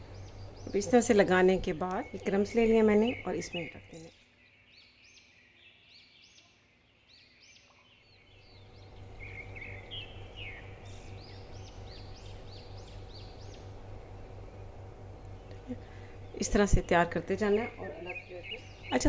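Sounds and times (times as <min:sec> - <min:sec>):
birds chirping: 0:00.0 - 0:19.0
low pulsing mechanical hum: 0:00.0 - 0:19.0.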